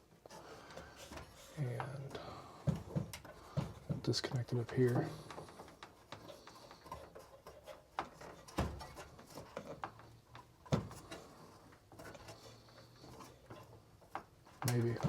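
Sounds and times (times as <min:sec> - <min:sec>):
small clicks and rubbing: 0:02.8 - 0:15.0.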